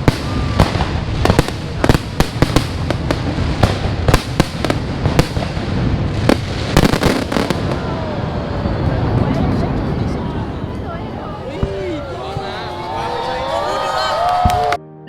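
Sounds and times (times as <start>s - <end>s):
fireworks bangs and pops: 0.0s - 13.0s
low rumble of explosions: 0.0s - 13.2s.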